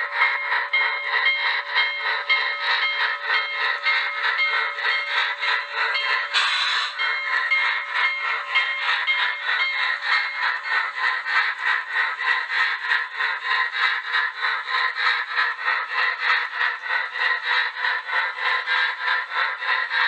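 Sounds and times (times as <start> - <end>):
model train clattering on track: 0.0 - 20.0.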